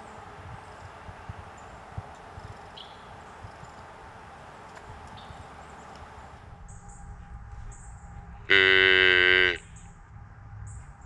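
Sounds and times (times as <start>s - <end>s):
loud steady buzzing tone: 0.0s - 11.0s.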